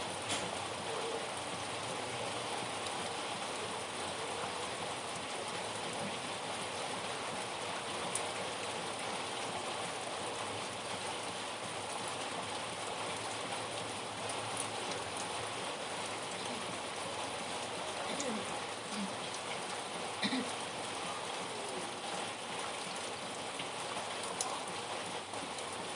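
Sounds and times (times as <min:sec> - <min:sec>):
steady rain hissing: 0:00.0 - 0:25.9.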